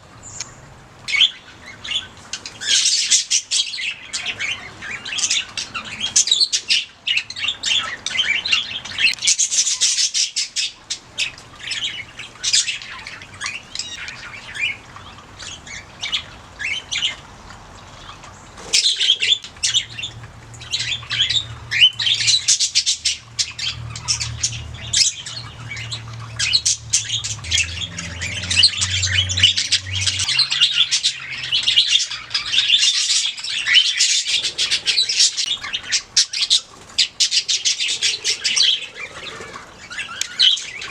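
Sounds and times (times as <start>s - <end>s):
budgerigars chirping and warbling: 0.2s - 40.9s.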